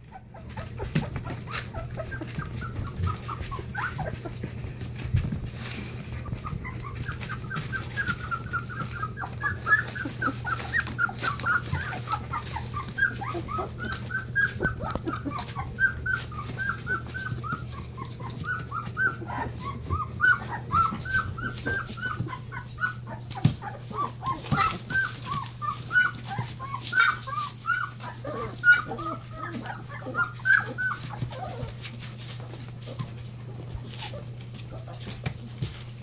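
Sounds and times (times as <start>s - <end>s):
puppies whimpering and squealing: 0.0s - 36.0s.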